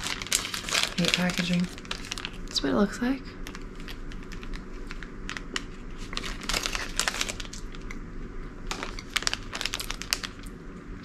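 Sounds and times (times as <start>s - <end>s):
plastic wrapper crinkling: 0.0s - 2.7s, 3.4s - 8.0s, 8.6s - 10.5s.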